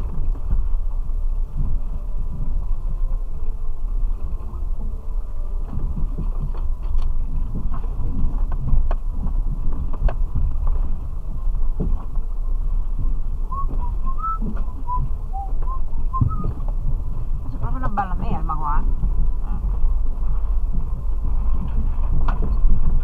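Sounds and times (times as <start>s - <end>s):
engine and drivetrain rumble: 0.0s - 23.0s.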